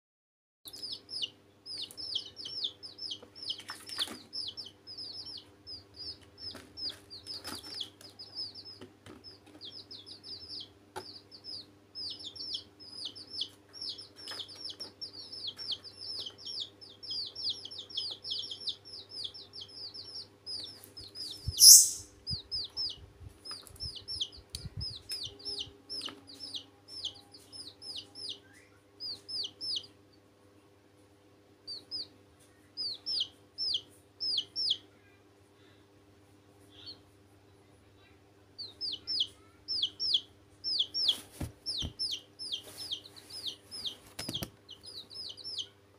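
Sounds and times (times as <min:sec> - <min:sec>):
baby chicks peeping: 0:00.7 - 0:45.9
faint steady hum: 0:00.7 - 0:45.9.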